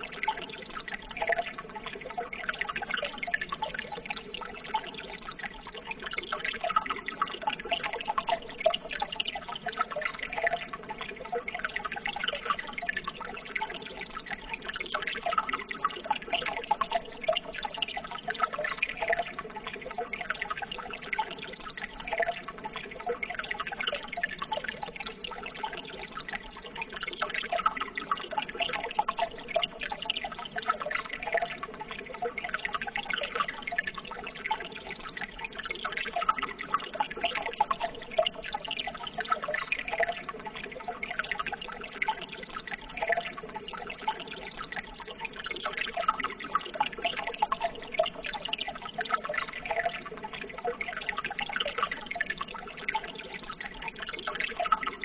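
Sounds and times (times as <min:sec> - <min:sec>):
running water trickling and splashing: 0:00.0 - 0:55.0.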